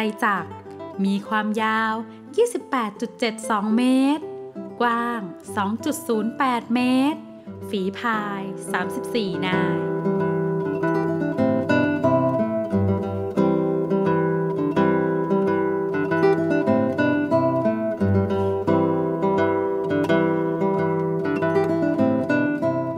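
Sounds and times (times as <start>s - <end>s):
acoustic guitar melody: 0.0s - 22.9s.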